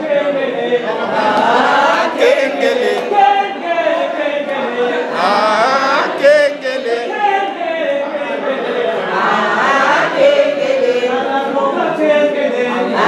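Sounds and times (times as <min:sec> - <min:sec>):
group singing chant-like song: 0:00.0 - 0:13.0.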